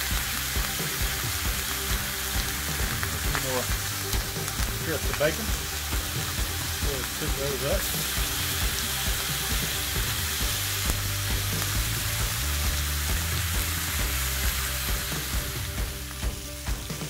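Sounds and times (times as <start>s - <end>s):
bacon sizzling on griddle: 0.0s - 17.0s.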